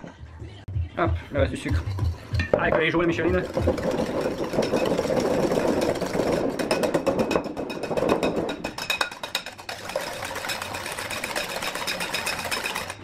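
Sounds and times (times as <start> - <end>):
whisk beating in a bowl: 1.6 - 13.0.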